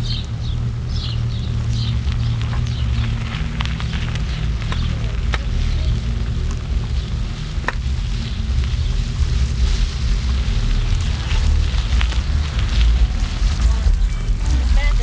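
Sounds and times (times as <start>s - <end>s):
vehicle rumbling on dirt road: 0.0s - 15.0s
wind noise on microphone: 0.0s - 15.0s.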